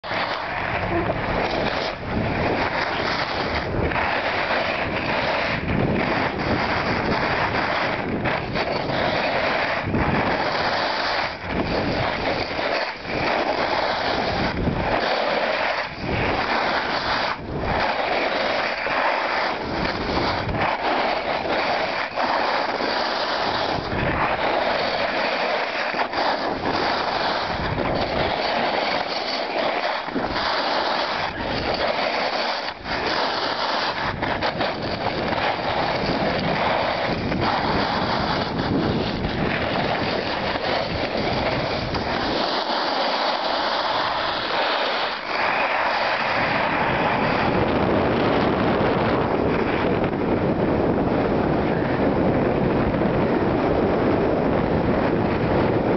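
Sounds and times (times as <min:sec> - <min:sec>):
skis hissing over snow: 0:00.0 - 0:49.9
wind rushing over microphone: 0:00.0 - 0:55.9.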